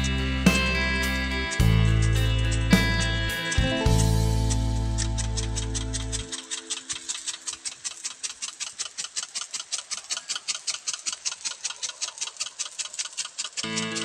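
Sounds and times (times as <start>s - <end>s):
impact sprinkler ticking: 0.0s - 14.0s
water spray hiss: 0.0s - 14.0s.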